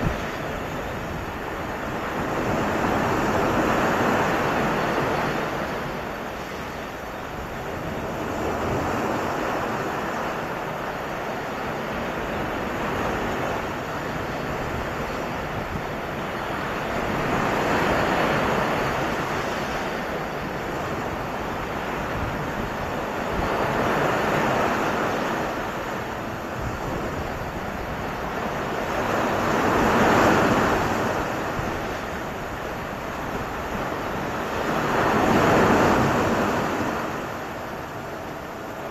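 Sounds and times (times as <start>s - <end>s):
sea surf breaking on shore: 0.0s - 38.9s.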